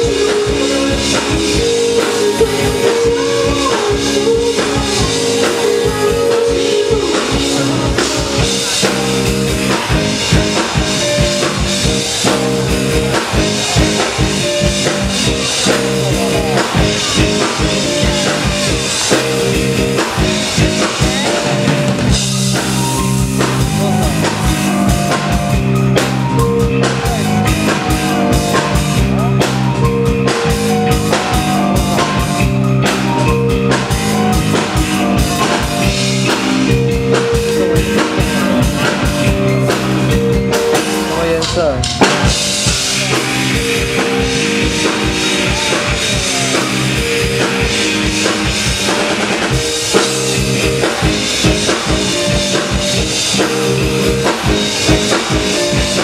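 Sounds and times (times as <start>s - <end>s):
busy drum kit: 0.0s - 56.0s
live rock band playing: 0.0s - 56.0s.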